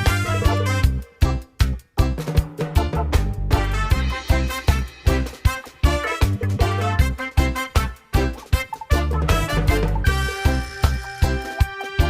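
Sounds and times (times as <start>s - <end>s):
upbeat swing instrumental music: 0.0s - 12.0s.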